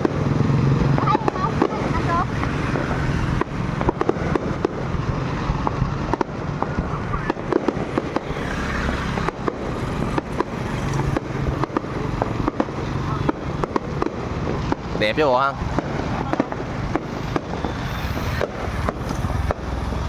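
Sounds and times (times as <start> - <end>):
continuous low rumble: 0.0 - 20.0
fireworks bangs and crackles: 0.0 - 20.0.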